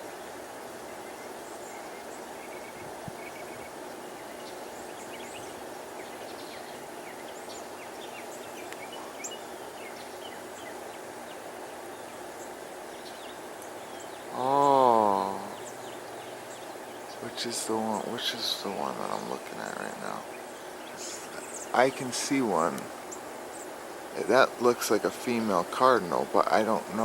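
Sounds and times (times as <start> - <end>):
outdoor background hum: 0.0 - 27.0
small birds chirping: 0.0 - 27.0.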